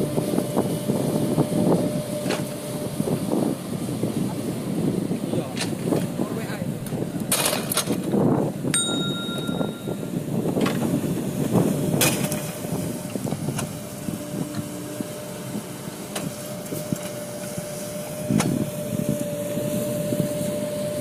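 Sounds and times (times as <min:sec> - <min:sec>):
excavator diesel engine: 0:00.0 - 0:21.0
steady mechanical whine: 0:00.0 - 0:21.0.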